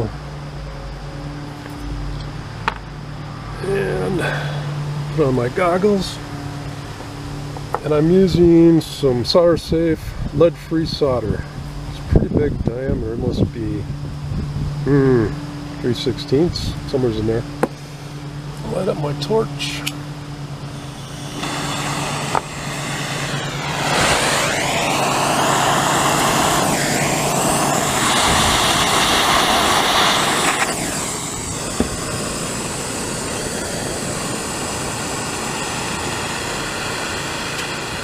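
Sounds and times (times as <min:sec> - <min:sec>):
gas torch burning: 0:03.6 - 0:14.0, 0:14.8 - 0:38.0.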